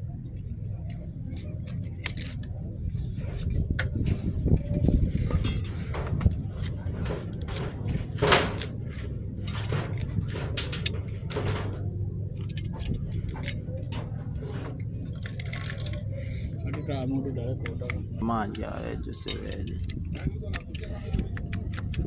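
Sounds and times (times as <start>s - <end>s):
metal tools clinking and knocking: 0.8s - 22.0s.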